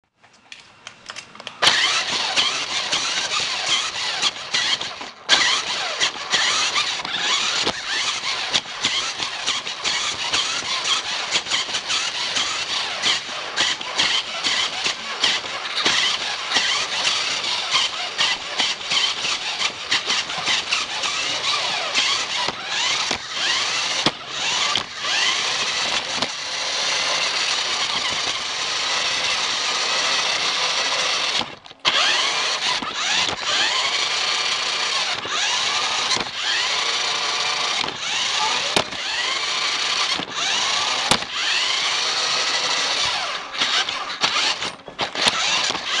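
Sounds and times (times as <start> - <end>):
toy car electric motor whining: 1.5 - 46.0.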